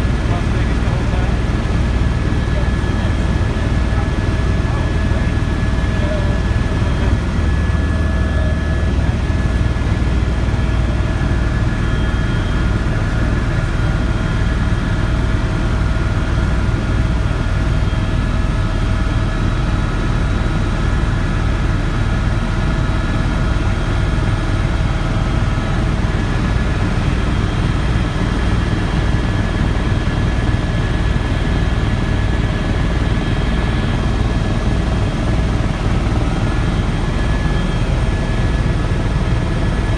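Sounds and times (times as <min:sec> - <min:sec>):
steady whining tones: 0:00.0 - 0:20.2, 0:21.2 - 0:39.9
engine and airflow noise: 0:00.0 - 0:39.9
helicopter rotor throb: 0:00.0 - 0:39.9.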